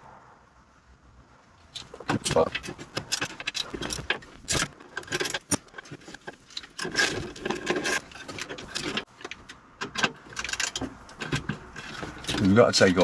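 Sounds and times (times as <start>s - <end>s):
rubbing and scraping: 1.6s - 13.0s.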